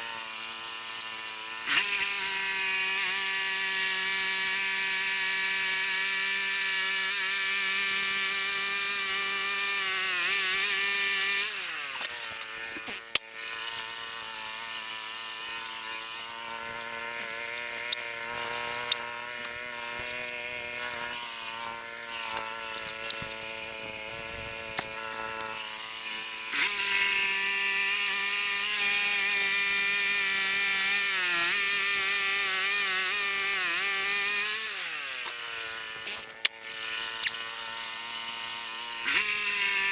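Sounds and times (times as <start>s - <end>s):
small gas engine revving and idling: 0.0s - 39.9s.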